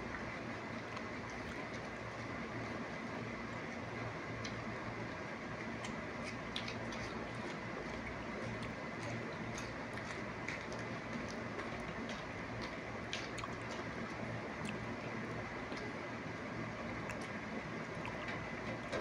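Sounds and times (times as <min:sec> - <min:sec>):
room hum: 0:00.0 - 0:19.0
people eating clicks and smacks: 0:00.1 - 0:16.1, 0:16.9 - 0:19.0.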